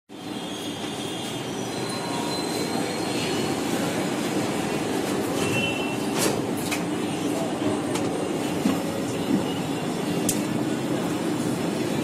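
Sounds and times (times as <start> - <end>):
train rumble: 0.1 - 12.0.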